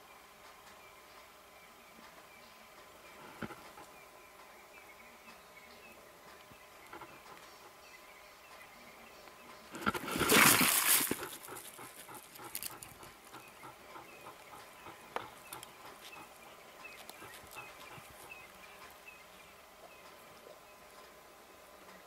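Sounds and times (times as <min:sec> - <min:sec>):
animals rustling: 0:02.8 - 0:04.5, 0:05.2 - 0:22.0.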